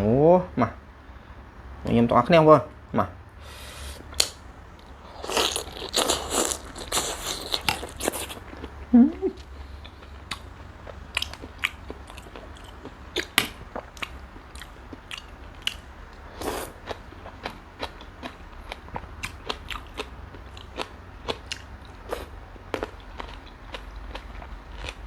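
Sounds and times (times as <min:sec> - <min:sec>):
steady low hum: 0:00.0 - 0:25.0
person biting and chewing: 0:04.1 - 0:25.0.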